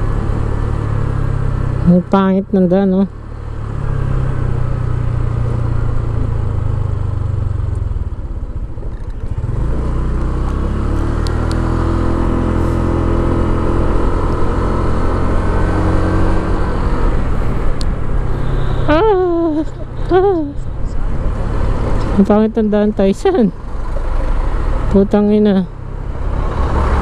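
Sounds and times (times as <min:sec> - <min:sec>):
road and wind noise: 0:00.0 - 0:27.0.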